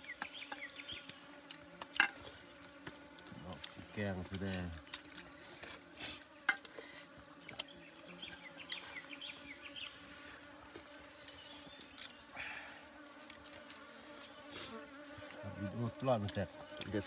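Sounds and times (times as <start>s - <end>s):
high insect drone: 0.0s - 17.0s
honeybee buzzing: 0.0s - 17.0s.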